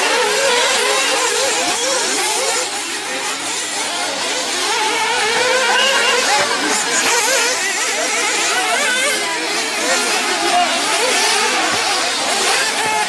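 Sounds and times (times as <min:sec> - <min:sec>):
rc buggy engines buzzing: 0:00.0 - 0:13.0.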